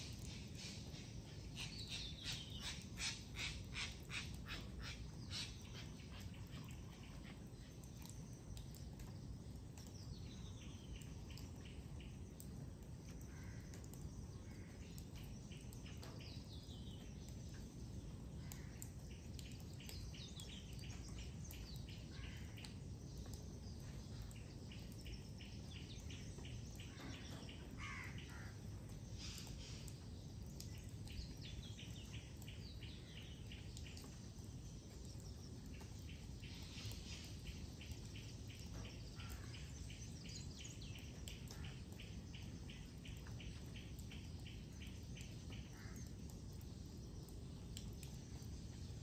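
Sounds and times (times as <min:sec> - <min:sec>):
low background noise: 0:00.0 - 0:49.0
birds chirping: 0:00.1 - 0:12.5, 0:13.4 - 0:49.0.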